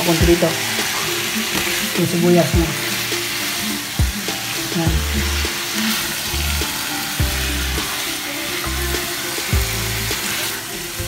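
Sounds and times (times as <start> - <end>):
chicken and onion sizzling in pan: 0.0 - 11.0
spatula stirring in pan: 0.0 - 11.0.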